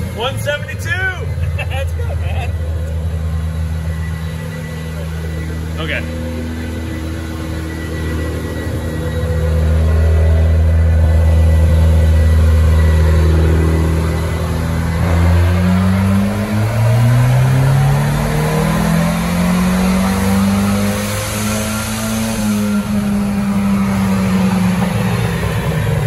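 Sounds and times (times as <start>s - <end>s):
turbocharged car engine running: 0.0s - 26.0s.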